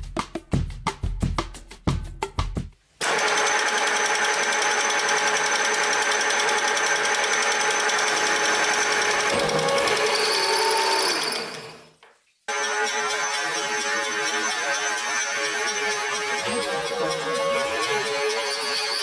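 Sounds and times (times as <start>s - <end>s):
milling machine cutting metal: 3.0s - 11.9s, 12.5s - 19.0s.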